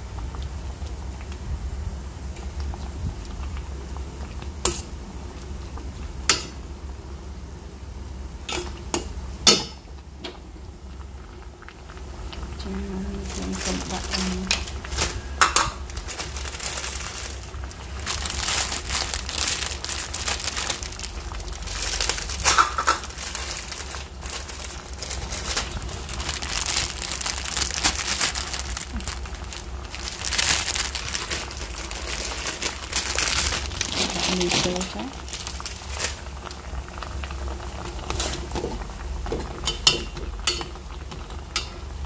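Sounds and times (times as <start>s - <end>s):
low steady hum: 0.0s - 42.0s
pot of liquid crackling and hissing: 0.0s - 42.0s.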